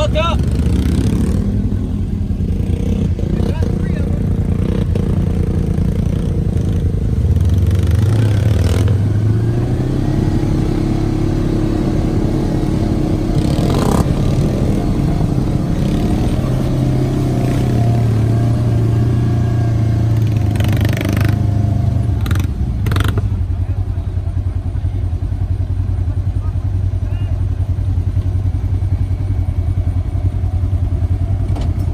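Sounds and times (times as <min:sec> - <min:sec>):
utility vehicle engine revving: 0:00.0 - 0:26.5
vehicle rattling over rough ground: 0:00.0 - 0:31.9.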